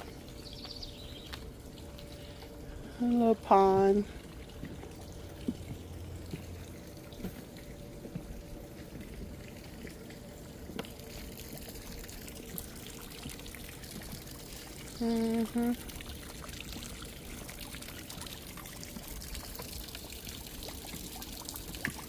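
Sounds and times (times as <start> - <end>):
water pouring into pond: 0.0 - 22.0.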